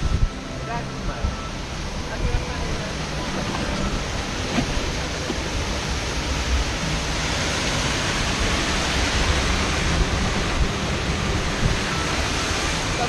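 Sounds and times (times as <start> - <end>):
rapids churning: 0.1 - 13.0.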